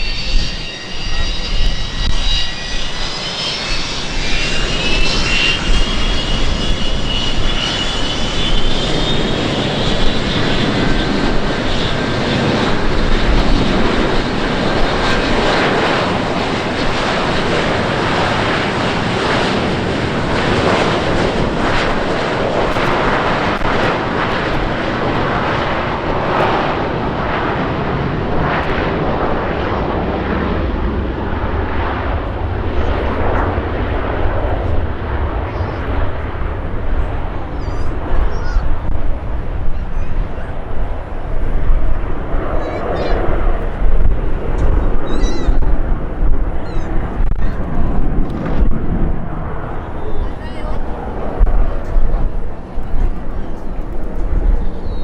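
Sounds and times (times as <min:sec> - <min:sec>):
airplane engine roar: 0:00.0 - 0:55.0
airplane engine whines: 0:00.0 - 0:55.0.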